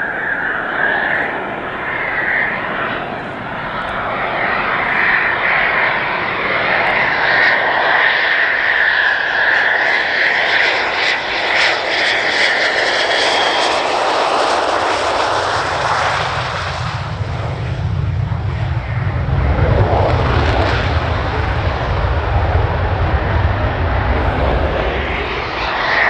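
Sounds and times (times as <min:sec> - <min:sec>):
jet engine deep rumble: 0:00.0 - 0:26.0
jet engine whine: 0:00.0 - 0:26.0.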